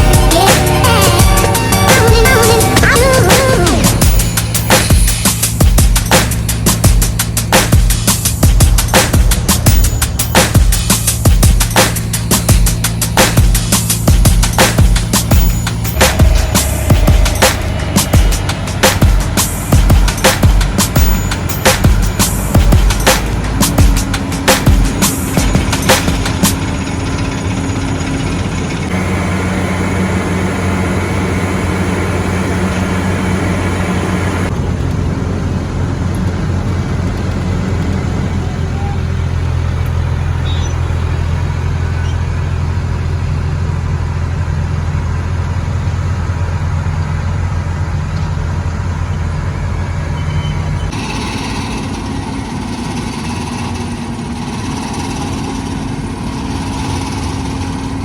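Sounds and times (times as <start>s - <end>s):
diesel construction machinery: 0.0s - 58.0s.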